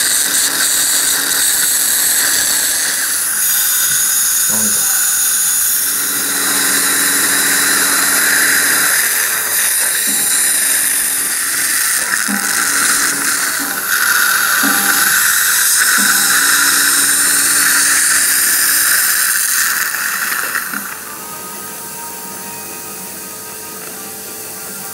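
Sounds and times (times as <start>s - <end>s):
steady hiss: 0.0s - 24.9s
surgical drill whine: 0.0s - 24.9s.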